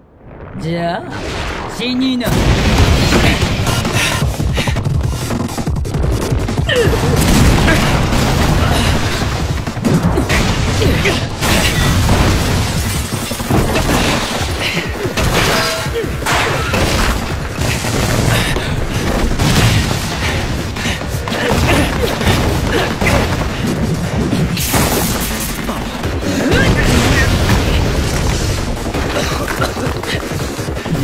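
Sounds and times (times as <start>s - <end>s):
heavy booms: 0.0s - 31.0s
dramatic music: 1.2s - 31.0s
debris crashing and shattering: 2.3s - 31.0s.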